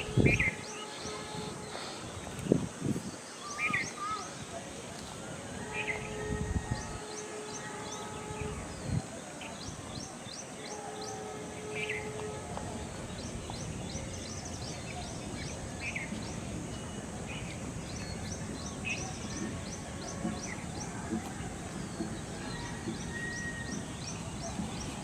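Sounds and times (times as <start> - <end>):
birds chirping: 0.0 - 25.0
steady background hiss: 0.0 - 25.0.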